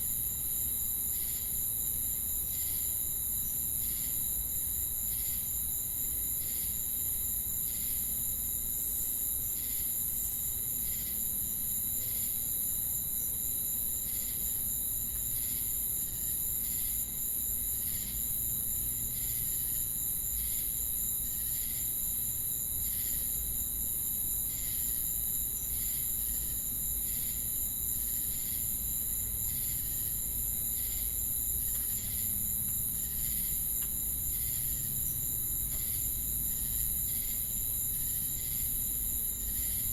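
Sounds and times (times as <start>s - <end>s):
cicadas buzzing drone: 0.0s - 39.9s
cricket chirps: 0.0s - 39.9s.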